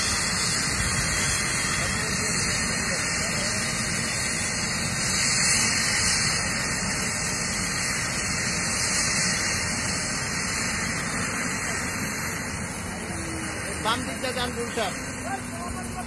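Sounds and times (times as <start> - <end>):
helicopter engine and rotor running: 0.0 - 16.0.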